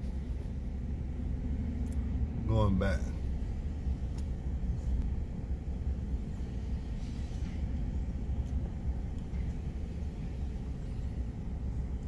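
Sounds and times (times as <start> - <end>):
car engine rumble: 0.0 - 12.0
tyres on road: 0.0 - 12.0.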